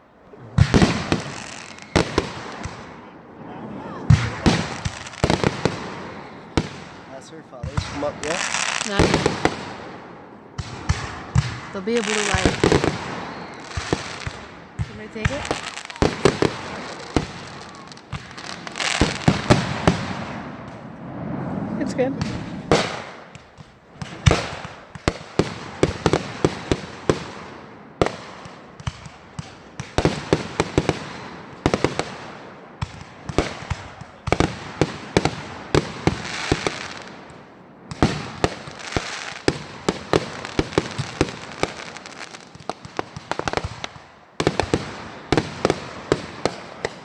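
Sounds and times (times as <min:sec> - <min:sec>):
fireworks banging and cracking: 0:00.0 - 0:47.0
fireworks crackling and hissing: 0:00.0 - 0:47.0.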